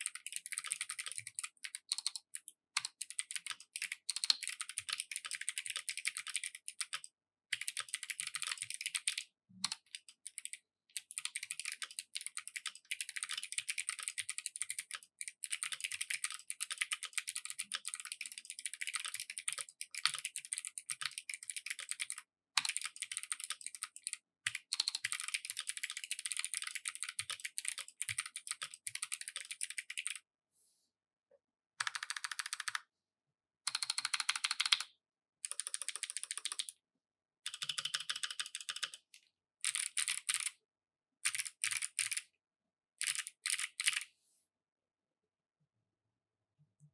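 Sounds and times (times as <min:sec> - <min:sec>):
clicky mechanical keyboard typing: 0:00.0 - 0:30.2, 0:31.8 - 0:32.8, 0:33.7 - 0:36.7, 0:37.5 - 0:40.6, 0:41.2 - 0:42.2, 0:43.0 - 0:44.0.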